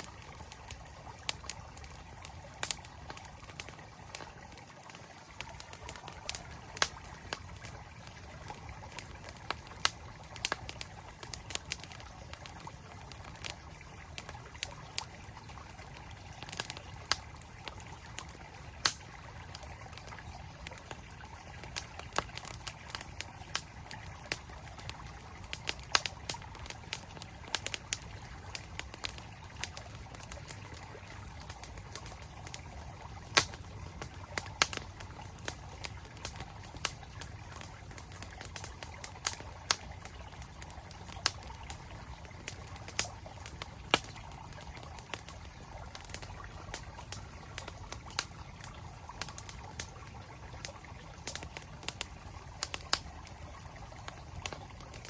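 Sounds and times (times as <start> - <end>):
campfire crackling and popping: 0.0 - 55.0
flowing stream: 0.0 - 55.0.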